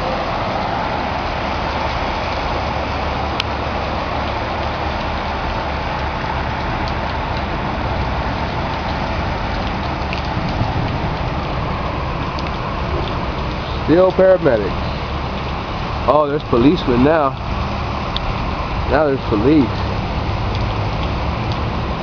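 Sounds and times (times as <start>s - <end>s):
floodwater running down street: 0.0s - 22.0s
low rumble: 0.0s - 22.0s
rain: 0.0s - 22.0s.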